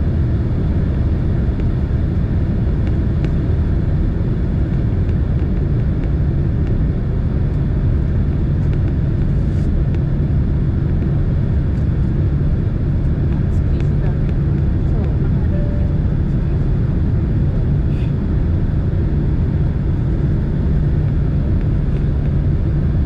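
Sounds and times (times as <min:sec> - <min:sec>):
airliner cabin engine rumble: 0:00.0 - 0:23.0
low steady hum: 0:00.0 - 0:23.0.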